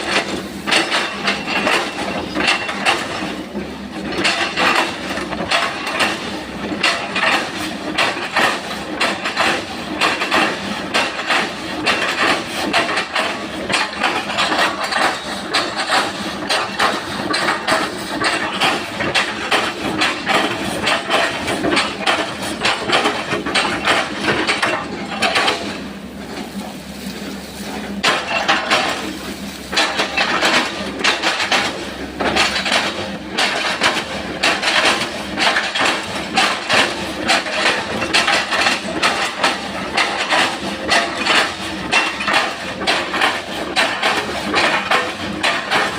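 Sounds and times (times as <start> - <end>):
excavator engine running: 0.0 - 45.9
steel striking wood: 4.2 - 45.9.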